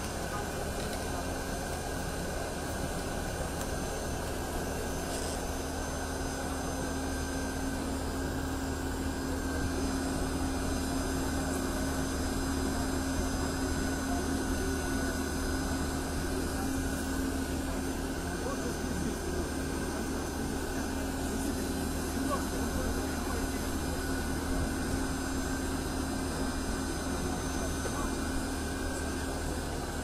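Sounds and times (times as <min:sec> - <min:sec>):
jet turbine humming: 0:00.0 - 0:30.0.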